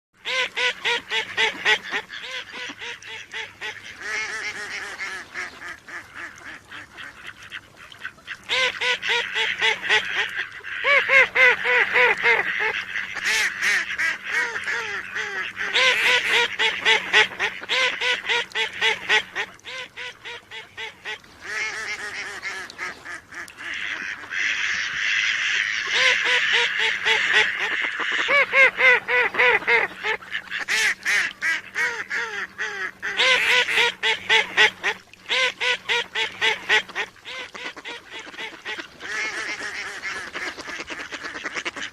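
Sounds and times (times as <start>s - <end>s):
ducks quacking: 0.2s - 41.9s.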